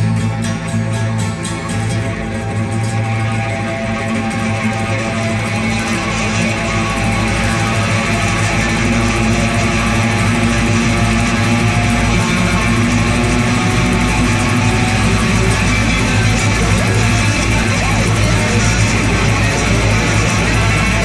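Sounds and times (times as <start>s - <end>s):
bass guitar: 0.0s - 21.0s
instrumental rock guitars: 0.0s - 21.0s.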